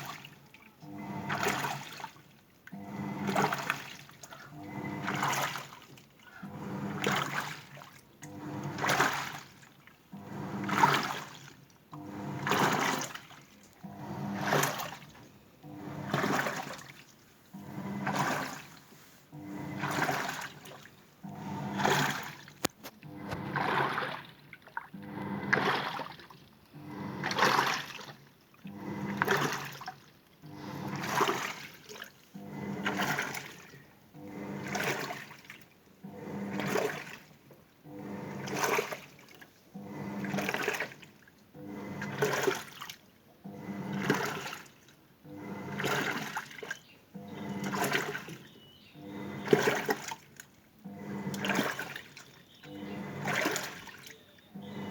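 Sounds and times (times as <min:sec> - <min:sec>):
washing machine motor humming: 0:00.0 - 0:54.9
water swishing in washing machine: 0:00.0 - 0:54.9.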